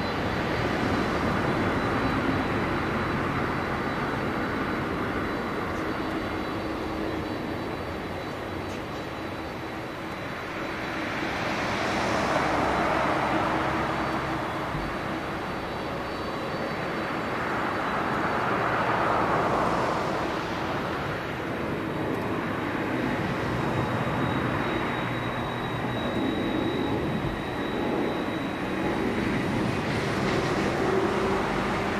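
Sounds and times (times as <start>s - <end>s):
faint steady whine: 0.0s - 31.9s
jet engines roaring: 0.0s - 31.9s.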